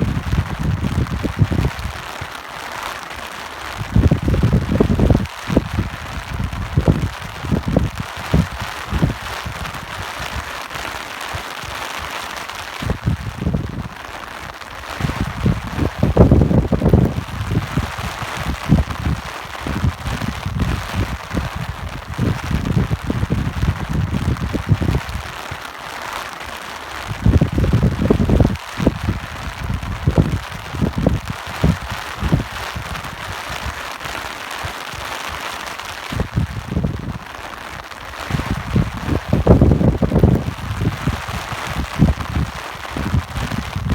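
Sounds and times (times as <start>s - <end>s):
wind gusting: 0.0s - 2.2s, 3.7s - 11.0s, 11.6s - 25.6s, 27.0s - 34.3s, 35.0s - 43.9s
rain falling: 0.0s - 43.9s.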